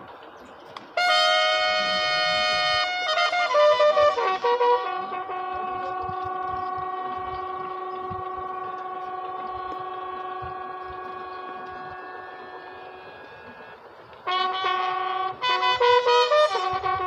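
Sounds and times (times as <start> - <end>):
bugle holding long note: 1.0 - 17.0.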